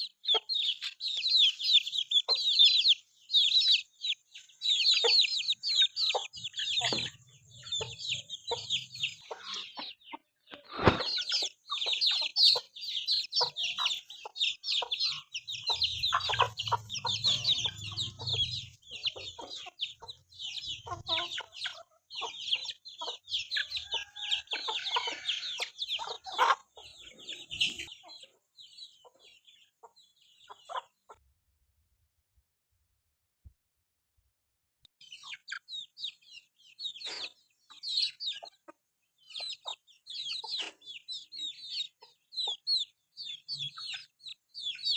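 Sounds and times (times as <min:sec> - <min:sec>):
chickens clucking: 0:00.0 - 0:31.2, 0:35.0 - 0:44.9
high-pitched chirps and peeps: 0:00.0 - 0:31.2, 0:35.0 - 0:44.9.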